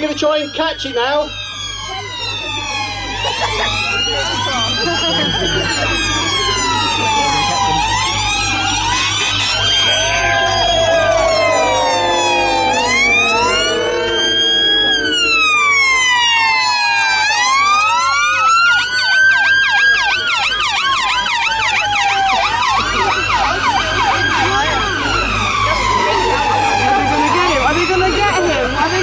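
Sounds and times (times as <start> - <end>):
fast siren yelp: 0.0 - 29.0
police sirens wailing: 0.0 - 29.0.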